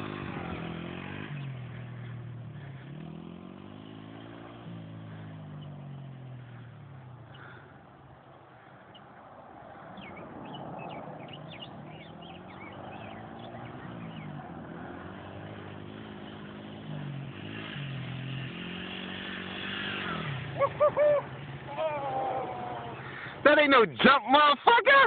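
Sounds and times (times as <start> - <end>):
dirt bike engine revving: 0.0 - 7.6, 11.2 - 25.0
birds chirping: 0.0 - 24.8.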